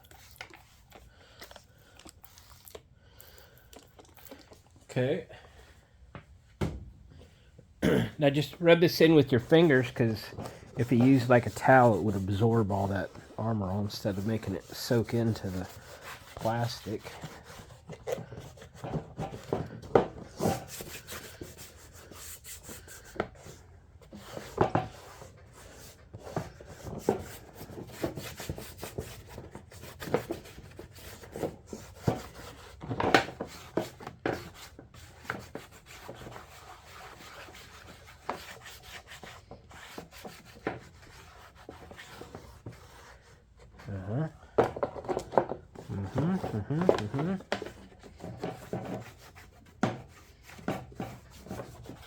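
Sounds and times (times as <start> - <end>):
fingers rubbing plastic: 8.4 - 52.0.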